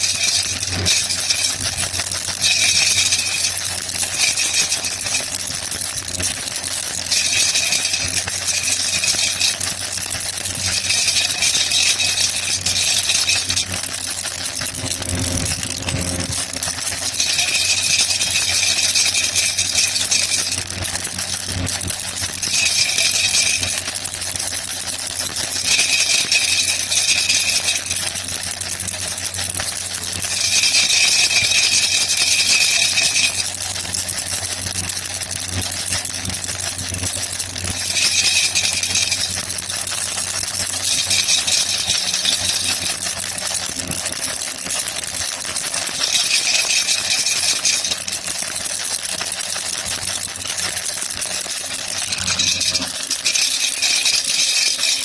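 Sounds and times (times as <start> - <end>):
baby rattle shaking: 0.0 - 55.0.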